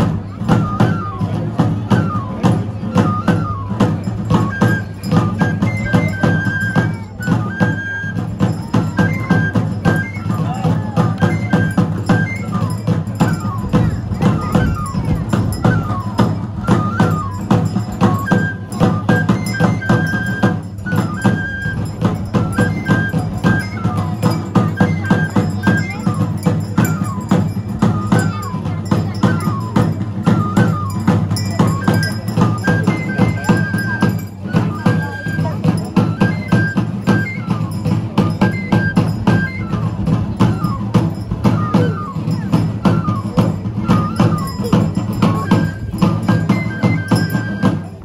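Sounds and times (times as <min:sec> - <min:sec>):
high melody: 0:00.4 - 0:48.0.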